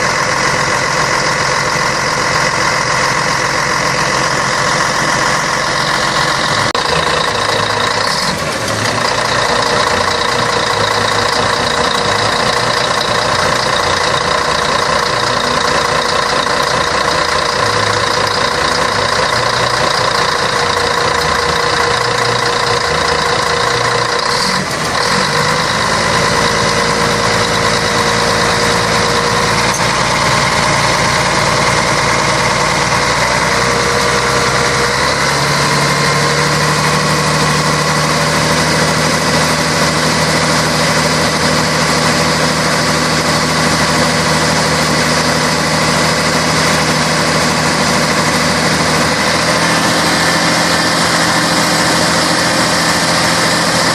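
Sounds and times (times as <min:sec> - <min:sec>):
diesel bus engine running: 0:00.0 - 0:53.9.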